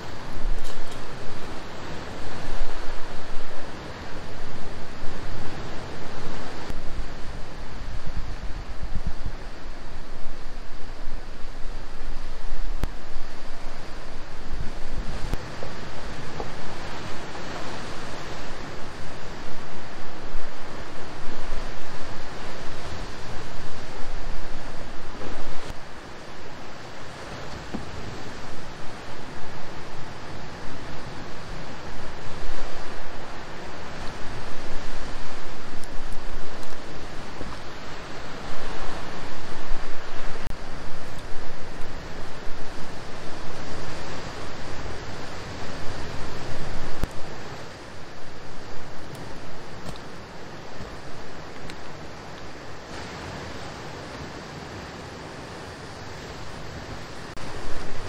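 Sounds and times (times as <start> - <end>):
sea surf rushing: 0.0 - 58.0
wind buffeting microphone: 0.0 - 58.0.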